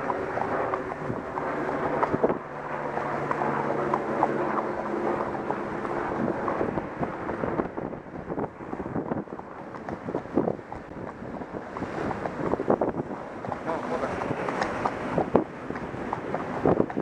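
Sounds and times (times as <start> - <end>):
horse hooves clopping on road: 0.0 - 17.0
wind on microphone: 0.0 - 17.0.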